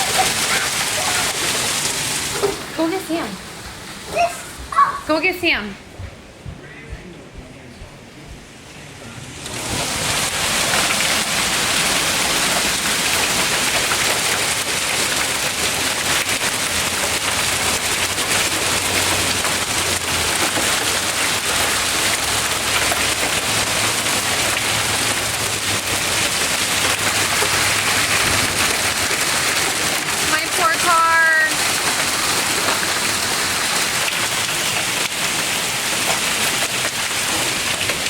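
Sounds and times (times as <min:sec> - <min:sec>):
heavy hail and rain: 0:00.0 - 0:04.8, 0:09.4 - 0:38.0.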